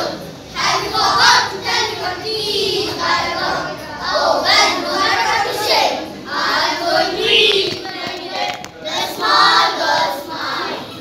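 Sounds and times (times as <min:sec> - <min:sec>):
boys singing in unison: 0:00.0 - 0:11.0.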